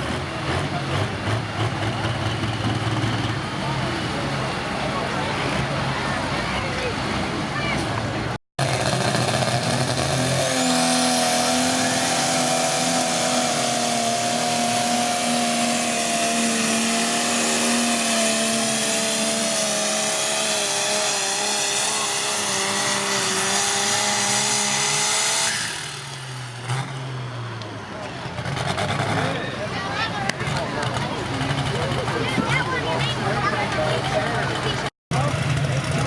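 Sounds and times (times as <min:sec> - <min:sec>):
engine at full throttle: 0:00.0 - 0:36.0.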